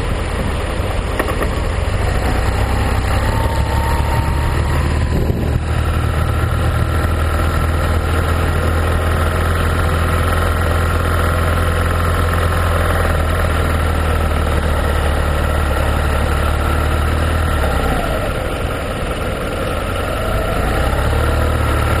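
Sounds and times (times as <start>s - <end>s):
scooter engine drone: 0.0s - 22.0s
wind and road noise: 0.0s - 22.0s.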